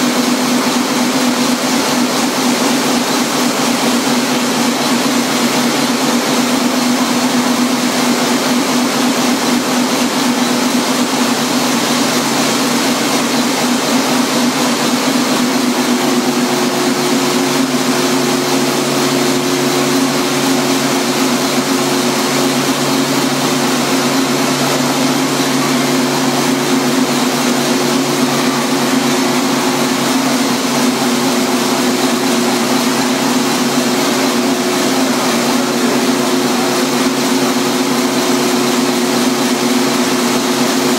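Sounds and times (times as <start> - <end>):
gas engine droning: 1.3 - 40.9.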